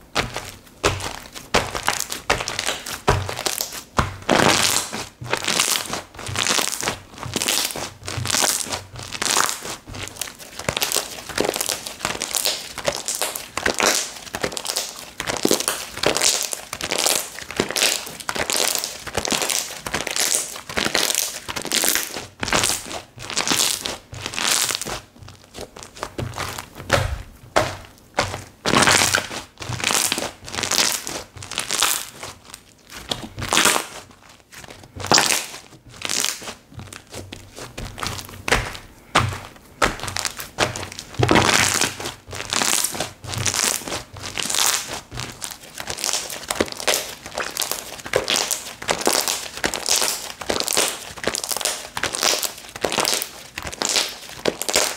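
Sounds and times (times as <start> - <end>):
slime squeezed by hand: 0.3 - 54.9.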